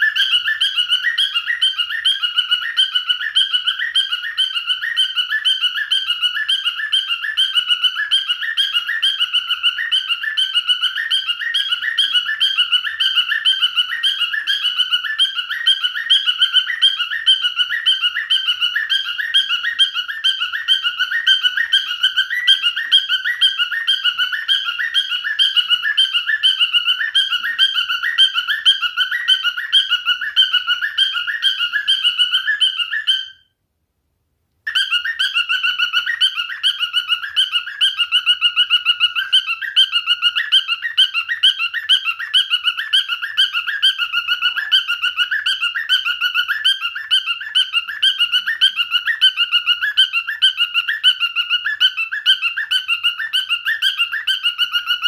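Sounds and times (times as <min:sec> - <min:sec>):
cockatiel chirping: 0:00.0 - 0:33.6, 0:34.7 - 0:55.0.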